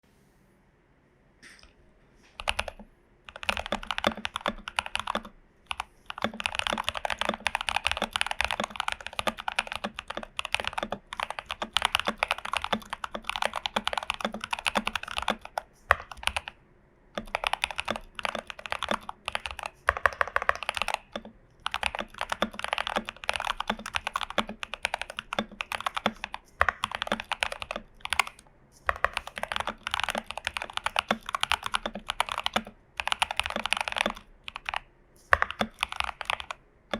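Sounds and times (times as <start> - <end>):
fast mechanical keyboard typing: 2.4 - 16.6, 17.2 - 36.9.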